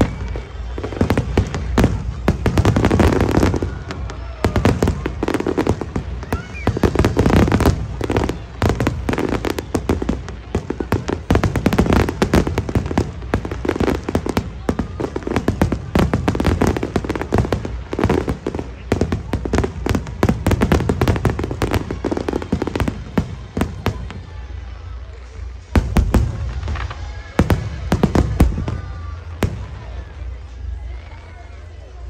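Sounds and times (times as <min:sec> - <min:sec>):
fireworks bangs and crackling: 0:00.0 - 0:32.0.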